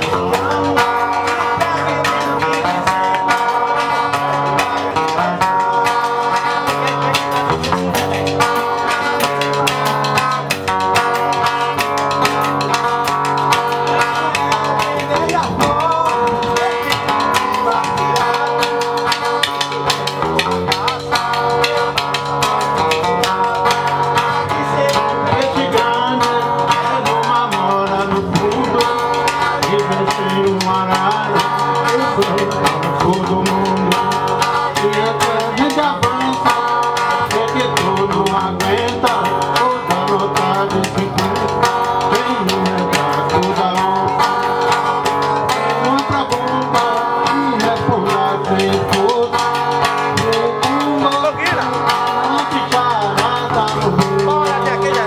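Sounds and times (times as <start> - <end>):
drums and hand percussion: 0.0 - 55.0
plucked string instrument: 0.0 - 55.0
voices singing: 0.0 - 55.0.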